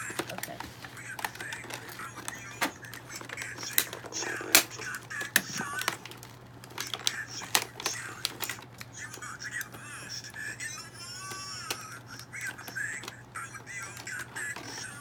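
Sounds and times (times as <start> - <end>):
faint voices: 0.0 - 15.0
plastic packaging clicking and crackling: 0.0 - 15.0.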